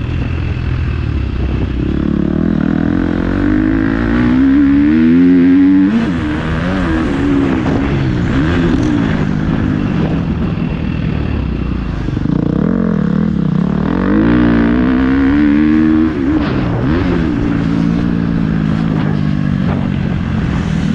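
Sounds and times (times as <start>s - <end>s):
motocross bike engine revving: 0.0s - 10.6s, 11.2s - 20.9s.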